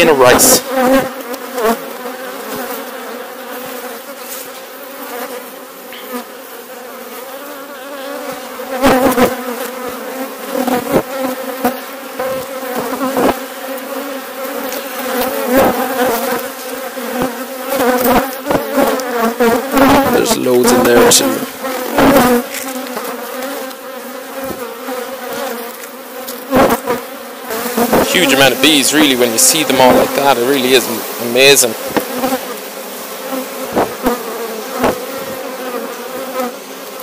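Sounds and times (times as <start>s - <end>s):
droning hum of honeybee colony: 0.0s - 37.0s.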